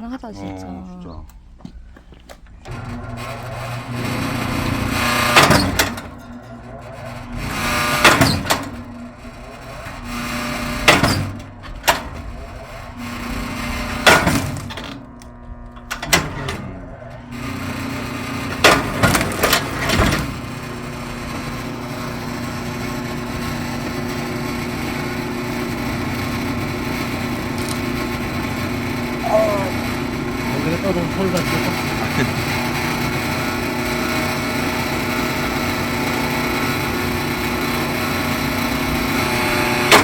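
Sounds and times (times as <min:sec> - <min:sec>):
log splitter engine running: 0:02.7 - 0:40.0.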